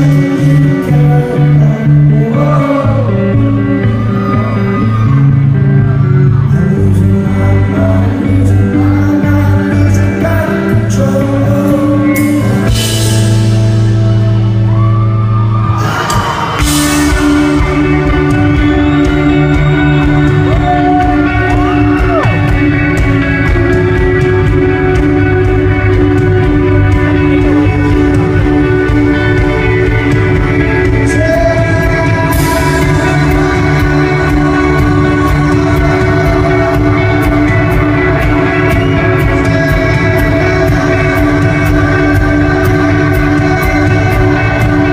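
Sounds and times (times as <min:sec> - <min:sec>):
person singing: 0:00.0 - 0:14.6, 0:15.7 - 0:44.9
drums: 0:00.0 - 0:44.9
electric guitar: 0:00.0 - 0:44.9
live rock band playing: 0:00.0 - 0:44.9.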